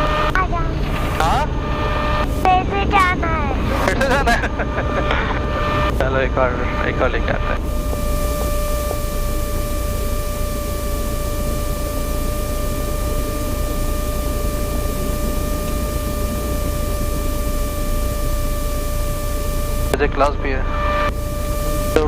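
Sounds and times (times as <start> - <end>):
airplane cabin engine noise: 0.0 - 22.0
thin steady whine: 0.0 - 22.0.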